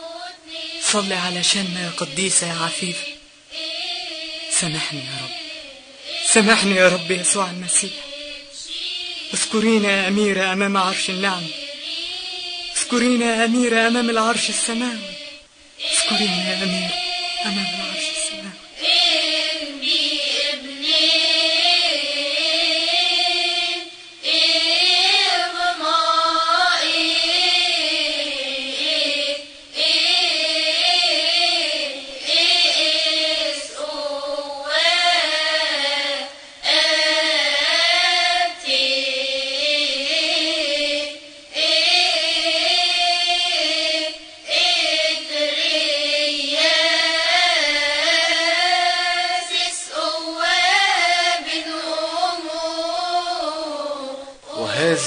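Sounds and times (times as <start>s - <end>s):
voices singing a hymn in unison: 0.0s - 55.0s.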